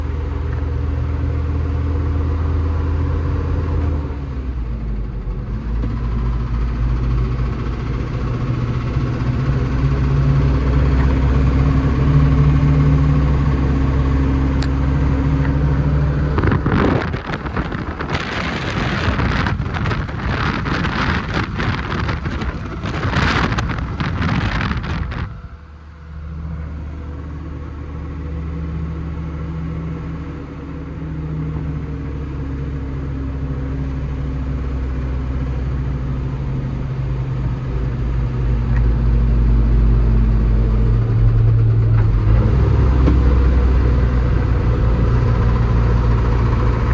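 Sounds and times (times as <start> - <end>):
rough crackling engine clatter: 0.0 - 25.7, 31.5 - 46.9
truck diesel engine running: 0.0 - 46.9.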